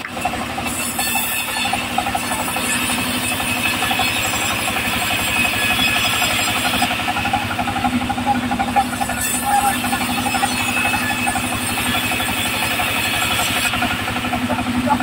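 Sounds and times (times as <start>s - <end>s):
bandsaw mill engine chugging: 0.0s - 15.0s.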